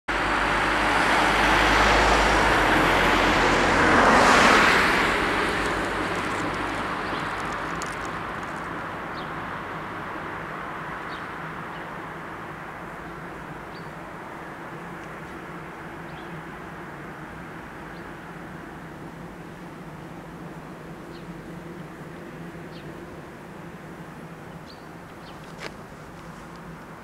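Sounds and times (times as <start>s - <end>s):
cars driving past: 0.1s - 27.0s.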